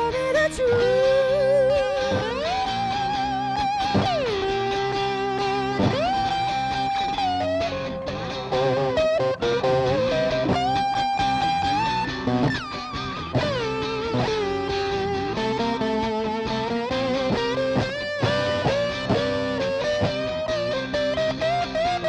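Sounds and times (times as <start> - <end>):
electric guitar chords: 0.0 - 22.0
lap steel guitar slide lead: 0.0 - 22.0.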